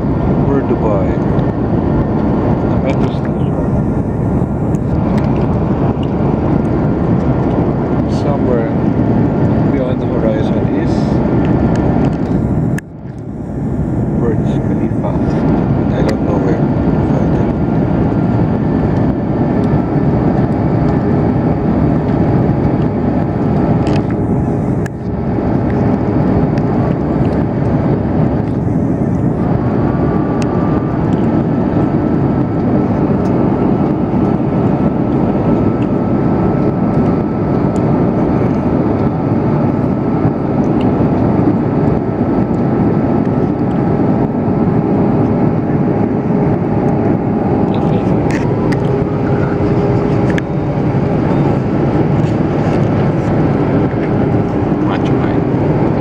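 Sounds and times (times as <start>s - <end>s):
faint engine whine: 0.0s - 56.0s
jet engine rumble in cabin: 0.0s - 56.0s.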